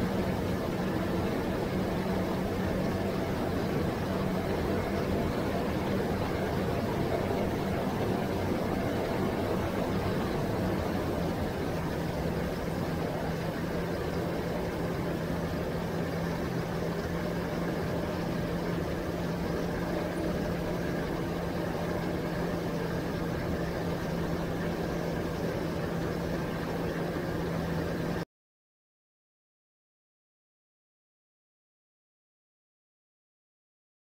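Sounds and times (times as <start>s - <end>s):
outboard motor drone: 0.0s - 28.2s.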